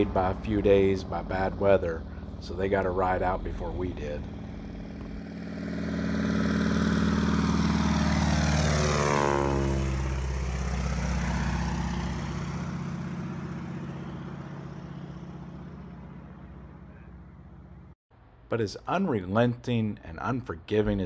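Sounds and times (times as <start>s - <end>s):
floatplane engine and propeller drone: 0.0s - 18.0s.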